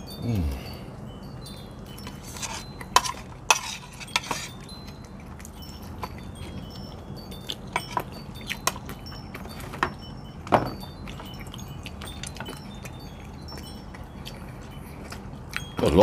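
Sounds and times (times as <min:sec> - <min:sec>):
wind chimes tinkling: 0:00.0 - 0:16.0
spoon clicking on plates: 0:01.7 - 0:15.6.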